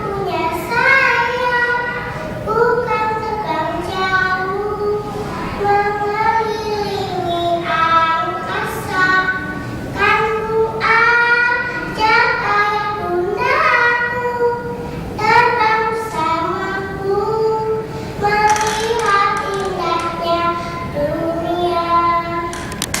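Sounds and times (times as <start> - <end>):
girl singing: 0.0 - 22.9.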